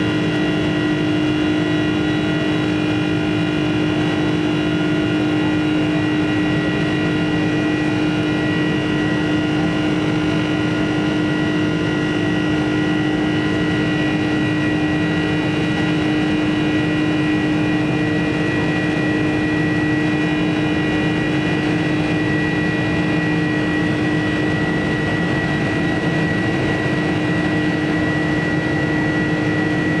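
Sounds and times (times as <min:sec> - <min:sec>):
high engine whine: 0:00.0 - 0:30.0
jet engines roaring in cabin: 0:00.0 - 0:30.0.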